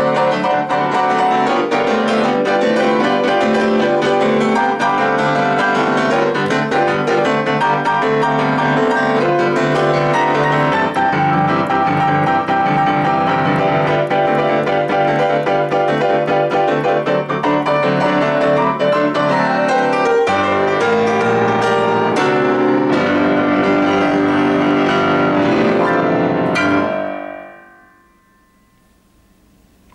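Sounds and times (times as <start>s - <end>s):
boogie-woogie grand piano: 0.0s - 29.9s.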